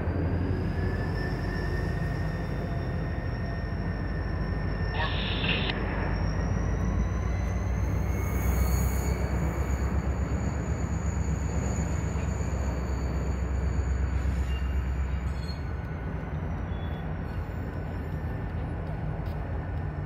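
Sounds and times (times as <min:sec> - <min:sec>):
locomotive engine rumble: 0:00.0 - 0:20.0
high wheel squeal: 0:00.1 - 0:18.8.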